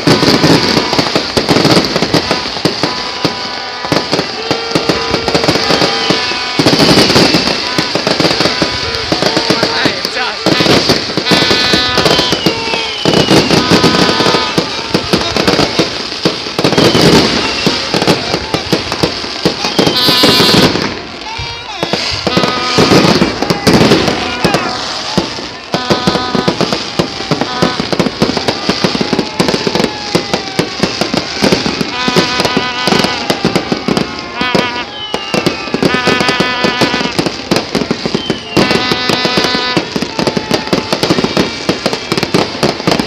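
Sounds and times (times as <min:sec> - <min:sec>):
crowd voices: 0:00.0 - 0:43.0
fireworks bangs and crackling: 0:00.0 - 0:43.0
fireworks whistling: 0:00.0 - 0:43.0.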